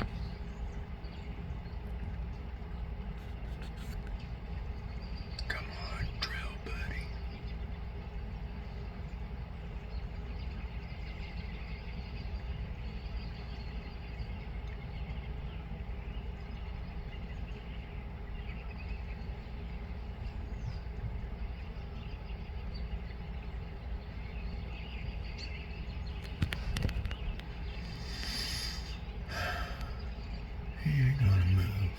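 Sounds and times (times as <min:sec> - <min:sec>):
faint bird chirps: 0:00.0 - 0:31.9.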